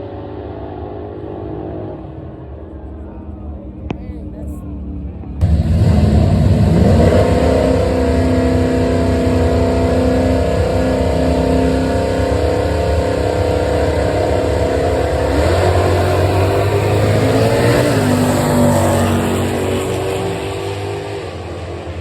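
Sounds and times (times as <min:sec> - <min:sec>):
car engine running: 0:02.2 - 0:22.0.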